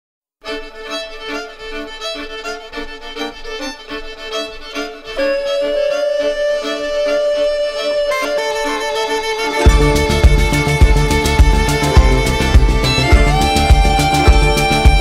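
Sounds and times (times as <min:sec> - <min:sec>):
instrumental background music: 0:00.4 - 0:15.0.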